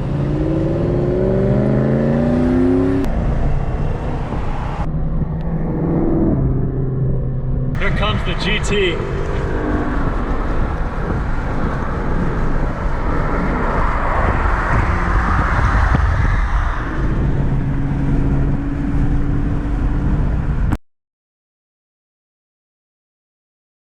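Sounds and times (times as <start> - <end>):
car engine driving by: 0.0 - 20.8.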